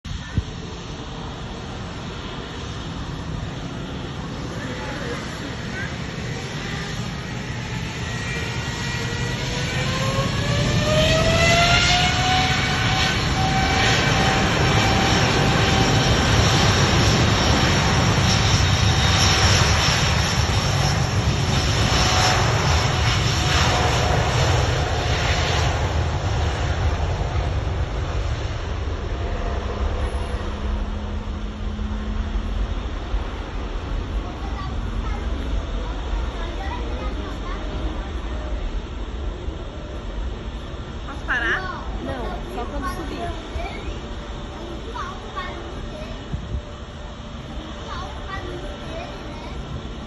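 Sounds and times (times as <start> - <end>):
jet airliner taking off: 0.1 - 50.0.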